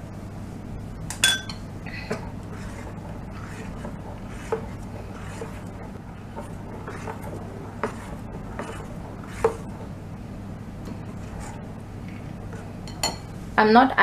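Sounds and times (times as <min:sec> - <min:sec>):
spoon stirring batter: 0:01.9 - 0:13.4.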